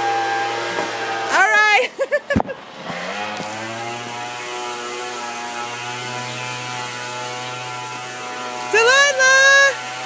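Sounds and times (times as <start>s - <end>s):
leaf blower running: 0.0s - 10.0s.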